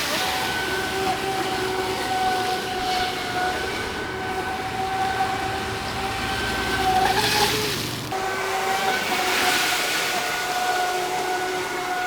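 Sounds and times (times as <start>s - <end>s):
rc boat motor whining: 0.0s - 12.0s.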